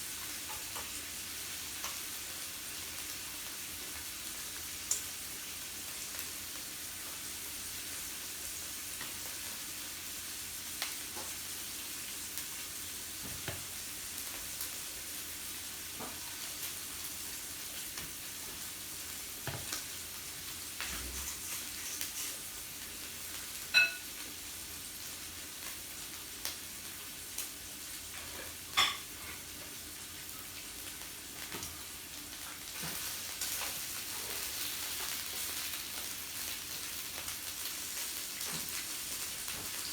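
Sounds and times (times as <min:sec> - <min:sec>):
meat sizzling on a grill: 0:00.0 - 0:39.9.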